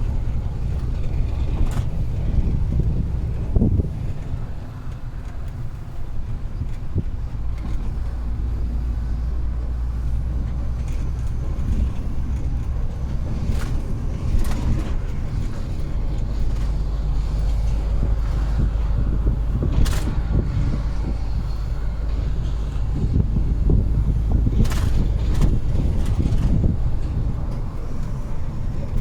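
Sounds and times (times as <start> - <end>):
road noise: 0.0 - 29.0
truck engine drone: 0.0 - 29.0.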